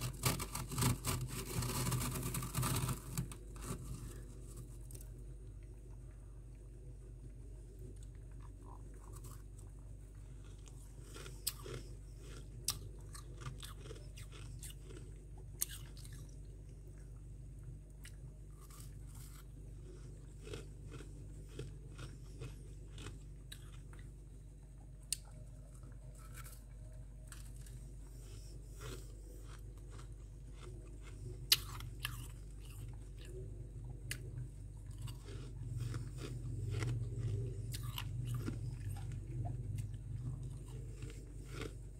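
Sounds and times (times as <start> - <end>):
crunchy chewing of frost: 0.0 - 41.9
low hum: 0.0 - 41.9.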